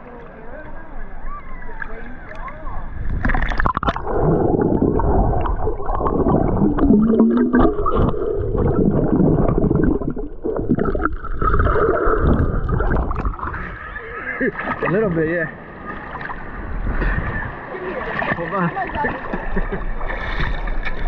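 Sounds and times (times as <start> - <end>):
muffled water churning underwater: 1.7 - 21.0.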